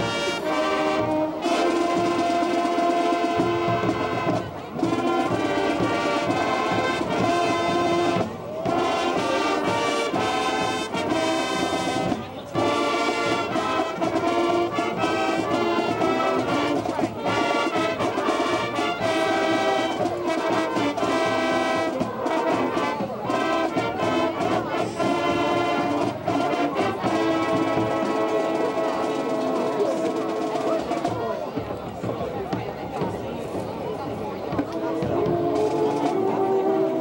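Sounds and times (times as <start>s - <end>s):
brass band playing held chords: 0.0s - 37.0s.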